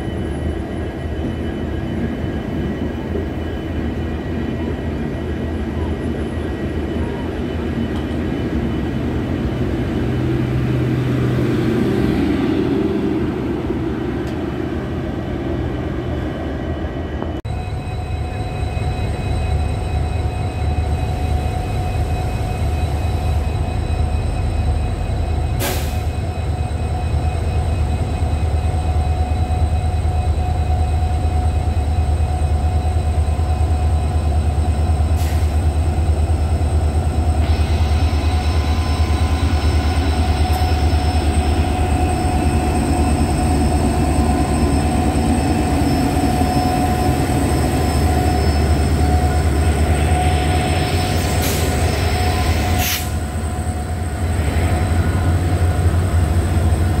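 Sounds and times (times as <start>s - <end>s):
train coaches rumbling past: 0.0s - 57.0s
locomotive engine rumble: 2.4s - 57.0s.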